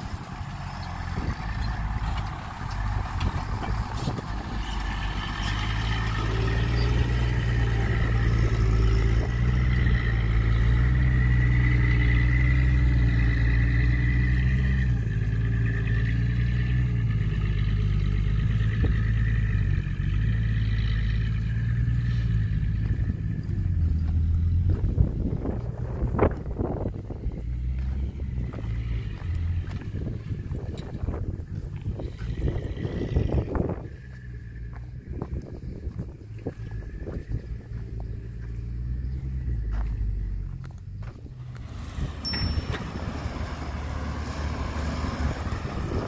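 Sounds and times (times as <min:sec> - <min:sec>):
truck diesel engine pulling: 0:00.0 - 0:46.0.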